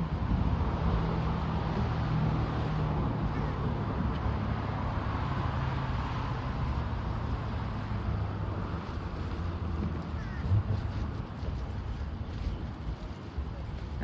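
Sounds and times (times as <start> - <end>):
car engine and tyre hum: 0.0 - 14.0.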